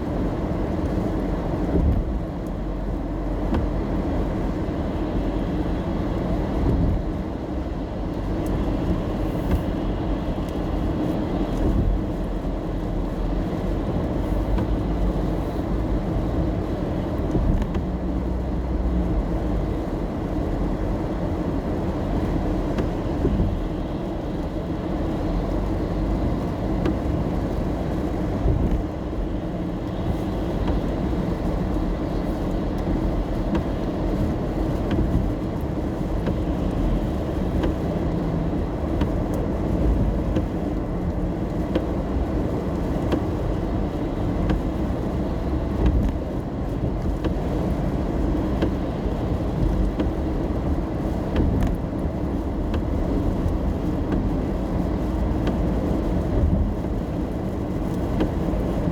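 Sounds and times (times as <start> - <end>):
engine and tyre rumble: 0.0 - 58.9.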